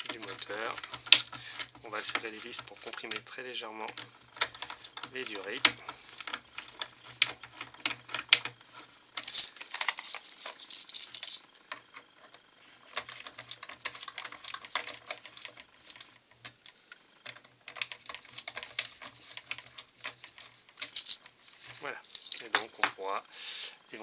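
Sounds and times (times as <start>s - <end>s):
screwdriver clicking and scraping metal: 0.0s - 22.9s.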